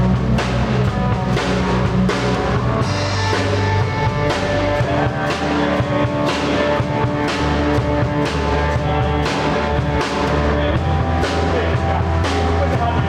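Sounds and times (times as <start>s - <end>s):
drum kit beat: 0.0s - 13.0s
guitar and bass chords: 0.0s - 13.0s.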